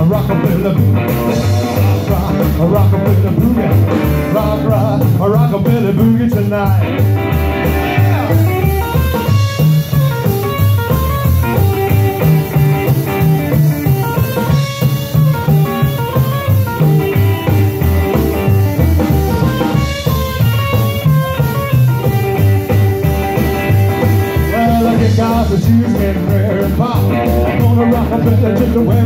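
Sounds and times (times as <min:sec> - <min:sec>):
drum kit steady beat: 0:00.0 - 0:29.0
electric guitar lead runs: 0:00.0 - 0:29.0
upright double bass: 0:00.0 - 0:29.0.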